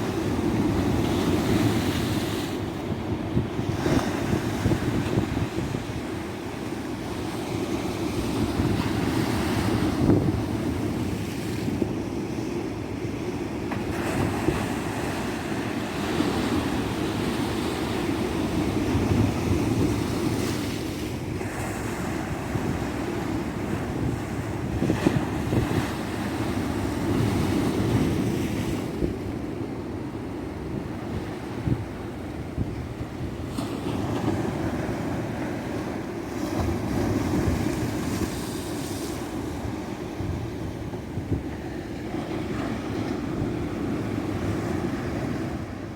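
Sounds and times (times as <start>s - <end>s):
wind buffeting microphone: 0.0s - 12.1s, 13.8s - 45.9s.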